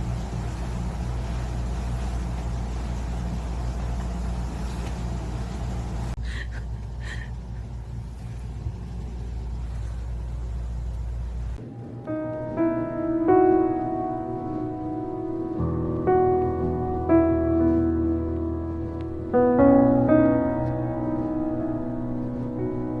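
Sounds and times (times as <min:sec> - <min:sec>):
vehicle interior rumble: 0:00.0 - 0:23.0.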